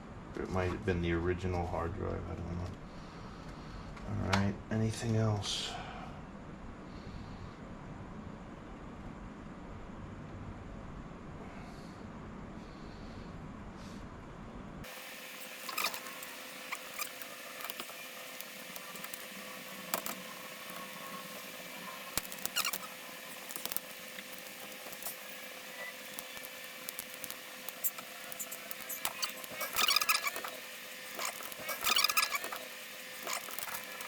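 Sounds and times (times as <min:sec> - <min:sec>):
faint hum: 0:00.0 - 0:34.0.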